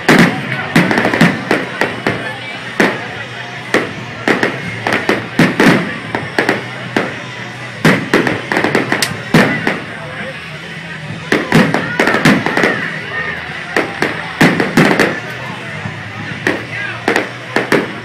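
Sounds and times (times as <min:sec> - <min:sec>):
fireworks banging: 0:00.0 - 0:18.0
fireworks crackling: 0:00.0 - 0:18.0.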